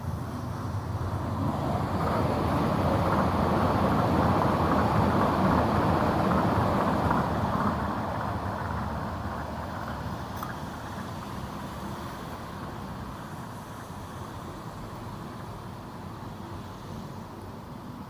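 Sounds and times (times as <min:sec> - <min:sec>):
passing vehicle rushing: 0:00.0 - 0:17.9.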